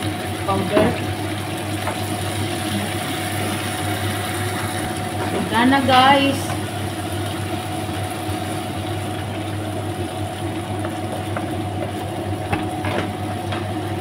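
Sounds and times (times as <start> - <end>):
motor hum with whine: 0.0 - 14.0.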